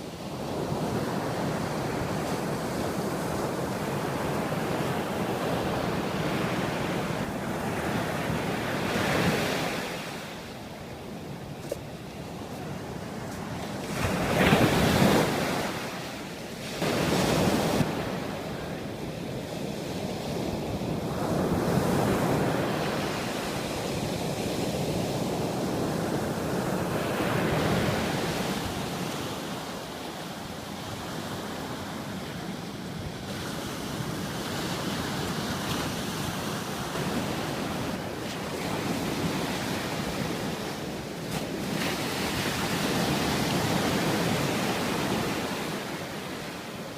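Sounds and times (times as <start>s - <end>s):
sea waves washing onto beach: 0.0s - 46.9s.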